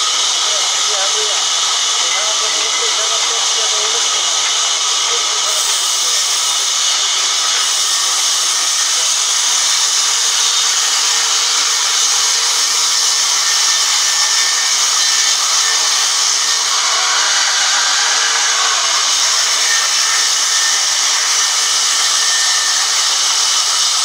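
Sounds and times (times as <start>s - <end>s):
band saw blade hissing through wood: 0.0s - 24.0s
band saw running: 0.0s - 24.0s.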